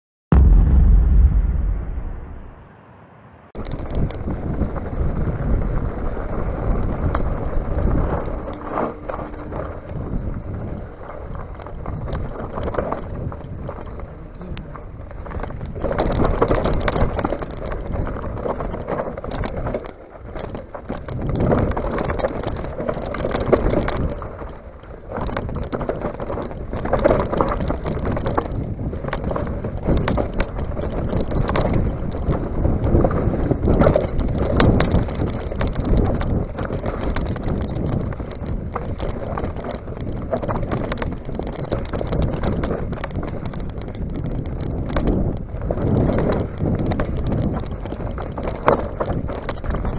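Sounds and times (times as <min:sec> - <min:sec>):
wind buffeting microphone: 0:00.3 - 0:02.9, 0:03.6 - 0:49.9
bike rattling over bumps: 0:03.6 - 0:49.9
bike tyres crunching over gravel: 0:03.6 - 0:49.9.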